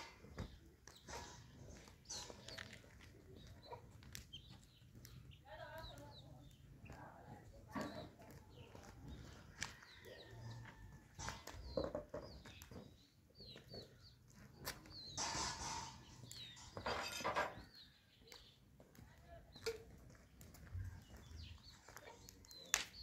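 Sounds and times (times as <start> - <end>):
chickens clucking: 0.0 - 18.9, 19.6 - 23.0.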